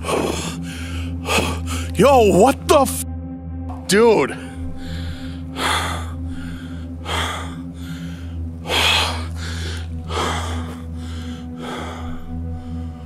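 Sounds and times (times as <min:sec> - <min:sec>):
man breathing heavily: 0:00.0 - 0:02.0, 0:04.4 - 0:13.0.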